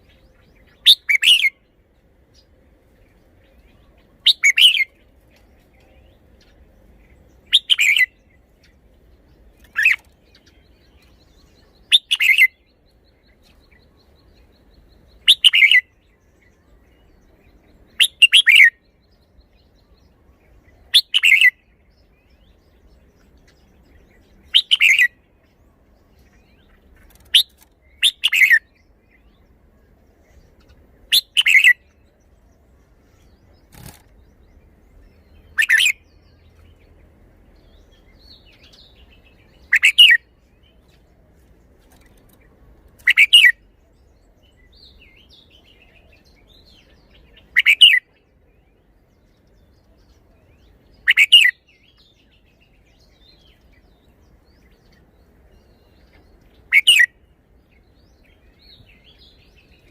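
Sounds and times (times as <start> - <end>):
bird singing short song phrases: 0.0 - 59.9.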